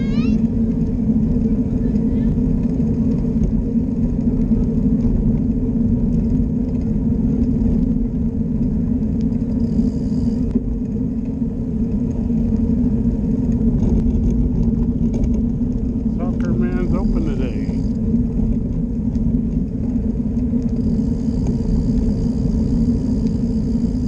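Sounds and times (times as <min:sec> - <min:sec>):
constant low hum: 0:00.0 - 0:24.0
tyre rumble on paved path: 0:00.0 - 0:24.0
wind noise: 0:00.0 - 0:24.0.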